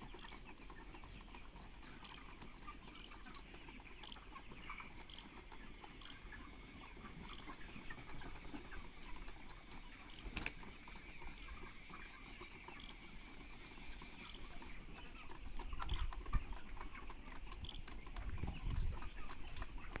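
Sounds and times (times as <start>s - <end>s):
birds moving in litter: 0.0s - 20.0s
chickens chirping: 0.0s - 20.0s.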